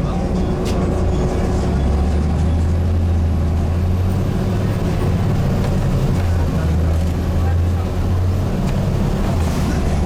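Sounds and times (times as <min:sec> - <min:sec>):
bus diesel engine accelerating: 0:00.0 - 0:10.0.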